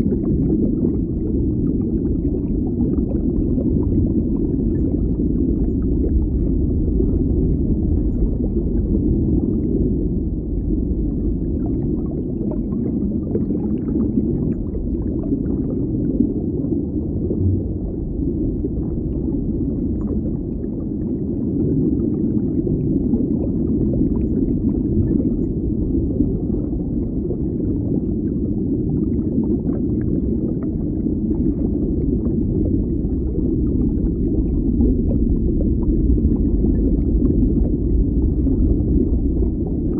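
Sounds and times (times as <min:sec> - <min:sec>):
faint crackles and gurgles: 0:00.0 - 0:39.9
underwater low rumble: 0:00.0 - 0:39.9.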